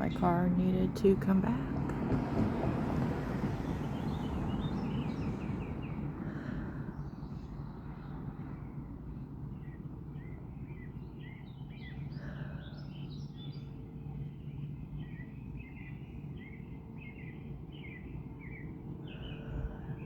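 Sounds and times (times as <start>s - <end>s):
small birds chirping: 3.5s - 20.0s.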